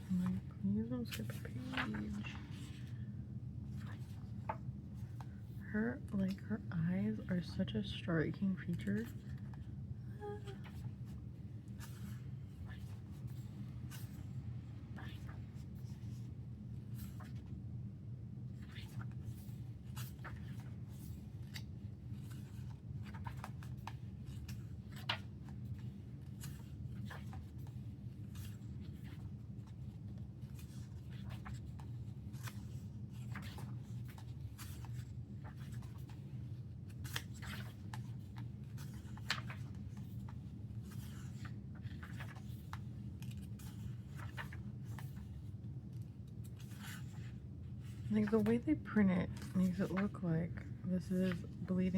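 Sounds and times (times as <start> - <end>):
paper pages rustling: 0.0 - 3.0, 3.6 - 5.6, 8.7 - 14.4, 15.0 - 17.6, 18.5 - 51.7
steady low hum: 0.0 - 51.9.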